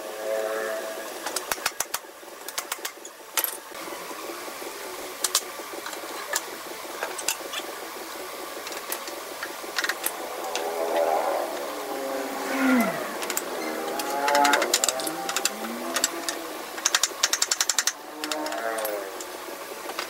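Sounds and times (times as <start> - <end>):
workshop background noise: 0.0 - 20.0.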